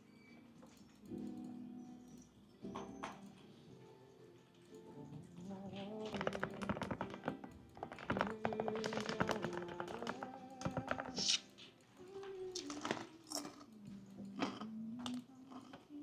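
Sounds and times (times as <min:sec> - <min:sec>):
soft background music: 0:00.0 - 0:16.0
computer keyboard typing: 0:00.6 - 0:03.8, 0:04.4 - 0:15.9.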